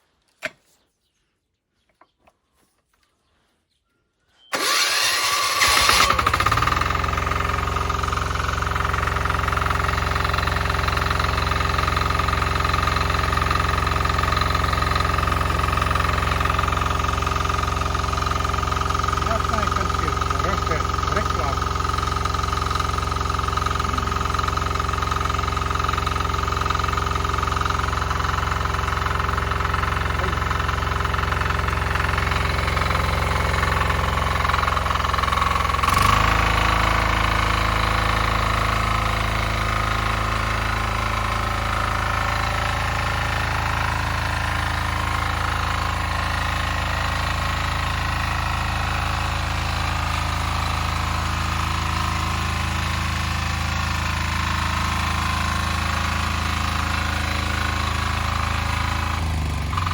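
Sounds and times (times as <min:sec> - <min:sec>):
diesel engine knocking: 0:05.7 - 0:59.9.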